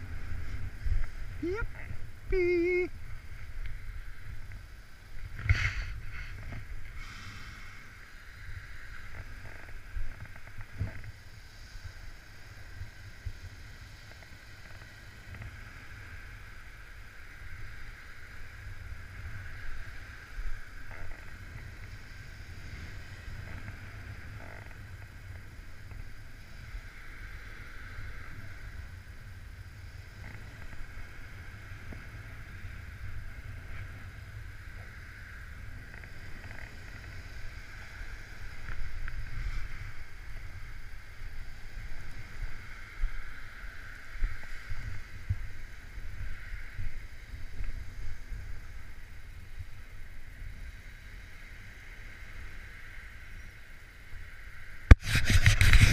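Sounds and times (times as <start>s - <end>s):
wind buffeting microphone: 0.0s - 52.9s, 54.2s - 55.9s.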